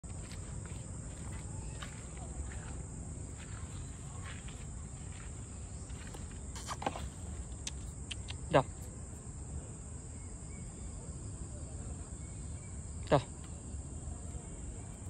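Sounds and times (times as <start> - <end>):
high-pitched insect chorus: 0.1 - 15.0.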